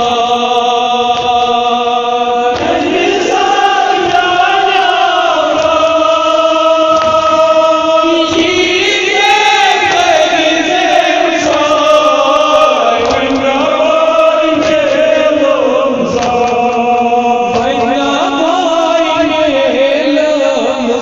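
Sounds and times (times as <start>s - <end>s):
men chanting an elegy: 0.0s - 21.0s.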